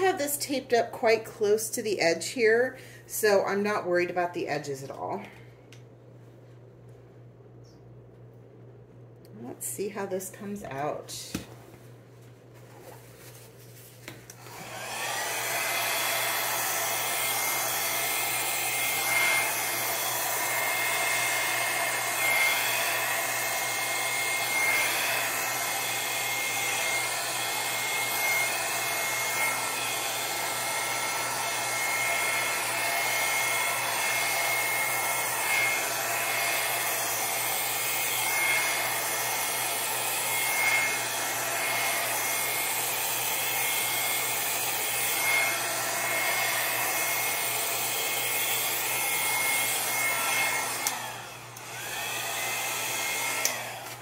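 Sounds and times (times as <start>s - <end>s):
hair dryer running: 0.0s - 5.8s, 14.0s - 54.0s.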